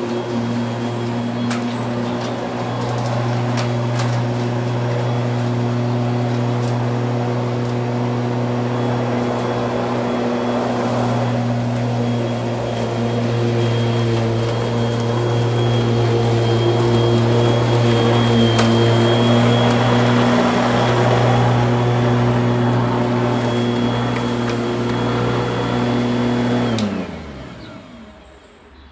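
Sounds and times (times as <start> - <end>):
lawn mower engine running: 0.0 - 28.6.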